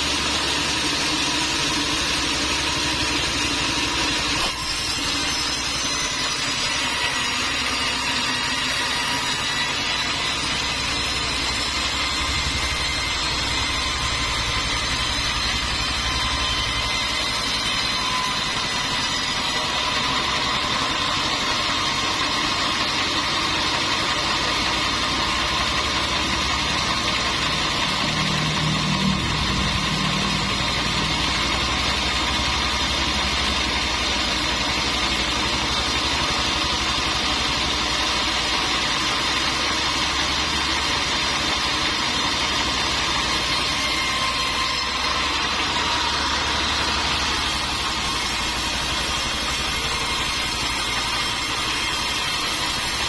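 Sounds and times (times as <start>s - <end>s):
machinery drone: 0.0s - 53.0s.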